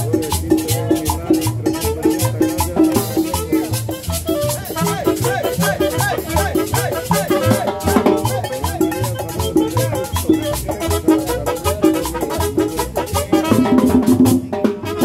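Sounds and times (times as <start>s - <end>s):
conga drums: 0.0s - 15.0s
maracas: 0.0s - 15.0s
repeating bass line: 0.0s - 15.0s
melody: 0.3s - 13.9s.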